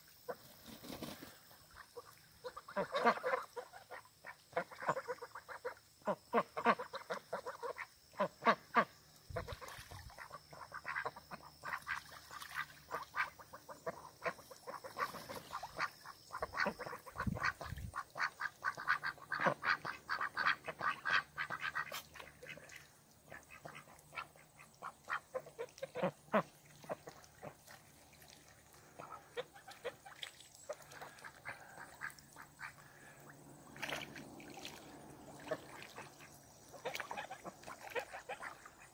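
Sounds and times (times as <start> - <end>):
ducks quacking: 0.3 - 38.9.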